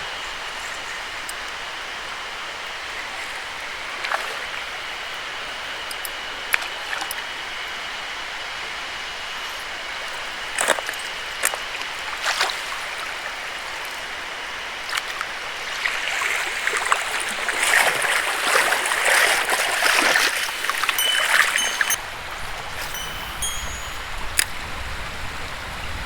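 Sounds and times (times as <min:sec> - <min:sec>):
mountain stream running: 0:00.0 - 0:25.8.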